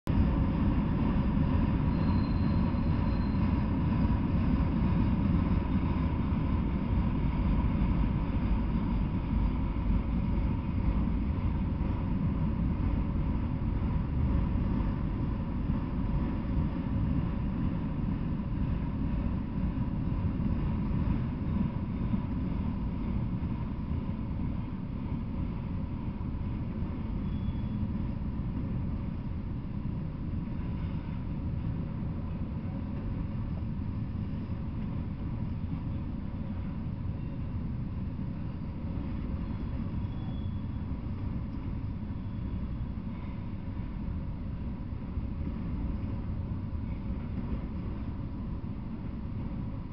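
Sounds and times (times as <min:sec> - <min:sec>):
train wheels rumbling on rails: 0:00.1 - 0:49.9.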